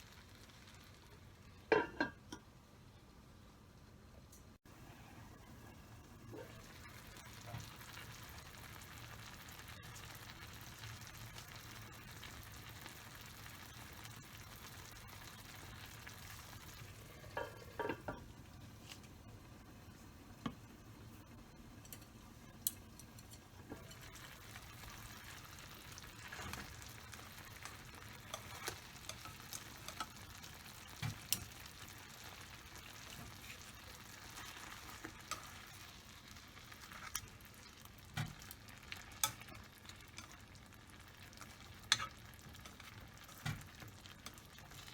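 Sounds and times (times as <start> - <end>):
food sizzling in a frying pan: 0.0 - 2.6, 4.7 - 44.9.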